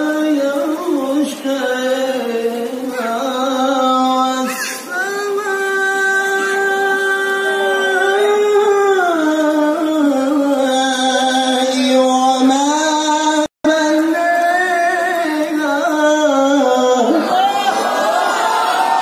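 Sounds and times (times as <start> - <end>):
man chanting melismatic recitation: 0.0 - 17.8.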